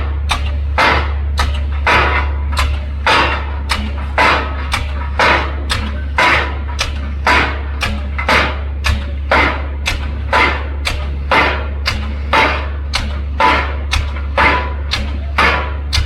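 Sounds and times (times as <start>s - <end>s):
low engine drone: 0.0s - 16.0s
pile driver metallic blows: 0.0s - 16.0s.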